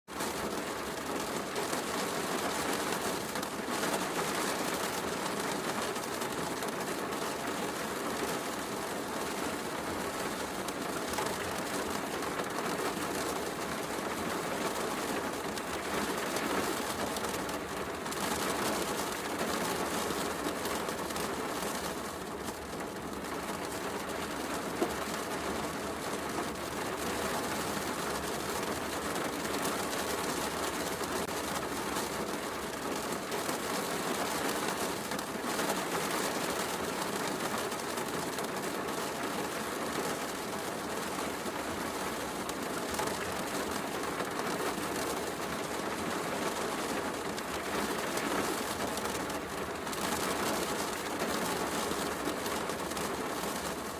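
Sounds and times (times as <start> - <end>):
heavy rain: 0.1 - 53.9.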